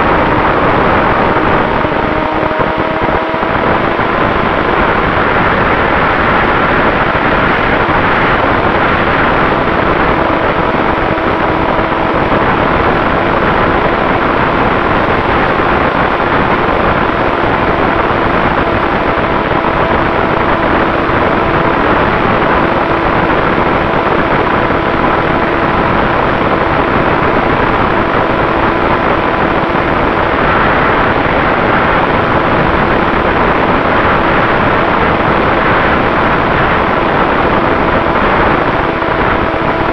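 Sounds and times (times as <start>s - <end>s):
electric motor and propeller hum: 0.0s - 39.9s
wind rushing over microphone: 0.0s - 39.9s.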